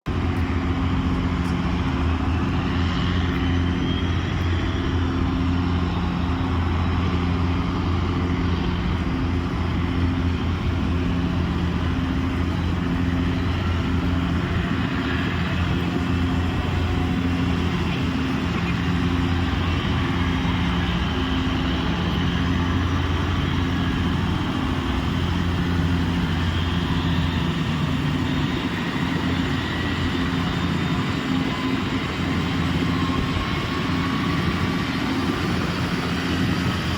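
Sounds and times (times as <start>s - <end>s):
gas turbine engine drone: 0.0s - 36.9s
faint high whines: 0.2s - 36.9s.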